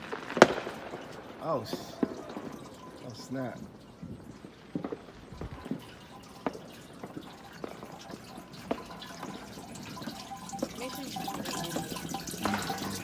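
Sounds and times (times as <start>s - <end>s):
fireworks popping and cracking: 0.0s - 13.0s.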